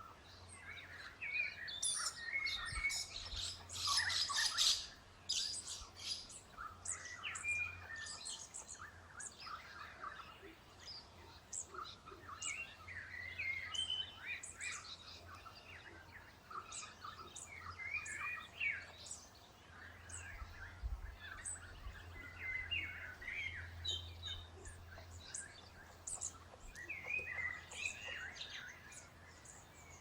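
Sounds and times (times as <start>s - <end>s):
birds chirping: 0.8s - 30.0s.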